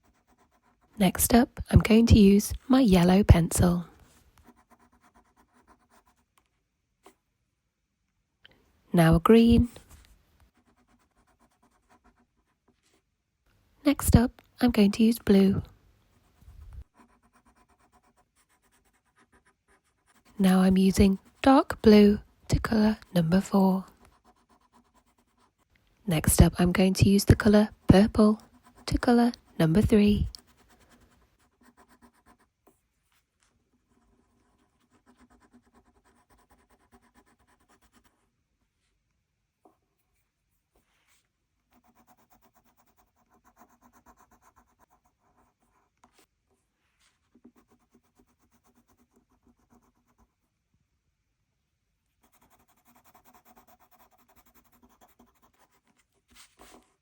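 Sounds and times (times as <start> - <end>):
pencil scratching on paper: 0.0 - 7.2, 9.1 - 13.0, 16.2 - 38.3, 39.6 - 50.5, 52.2 - 57.0.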